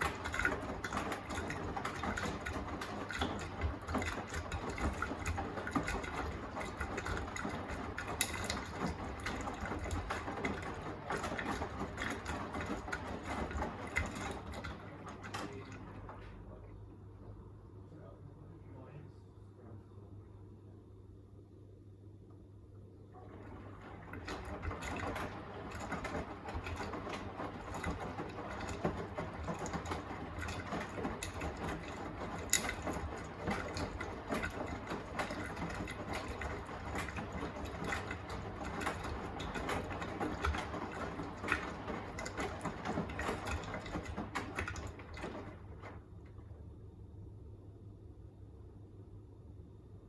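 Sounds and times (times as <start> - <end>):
washing machine load tumbling: 0.0 - 17.1, 23.1 - 47.0
washing machine low hum: 0.0 - 50.0.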